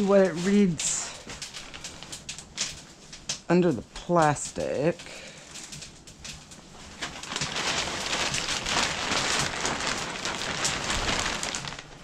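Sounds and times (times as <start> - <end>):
plastic sheeting rustling: 0.0 - 3.0, 4.3 - 12.0.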